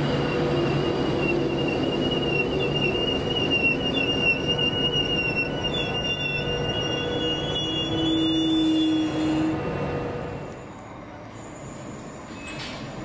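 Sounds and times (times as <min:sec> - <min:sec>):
train wheels flange squeal: 0:00.0 - 0:09.8, 0:11.4 - 0:13.0
train rumble: 0:00.0 - 0:13.0.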